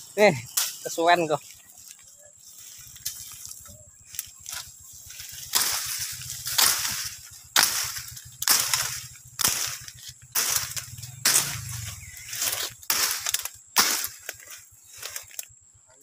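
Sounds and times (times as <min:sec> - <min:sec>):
machete hacking through brush: 0:00.5 - 0:01.1, 0:02.9 - 0:15.4.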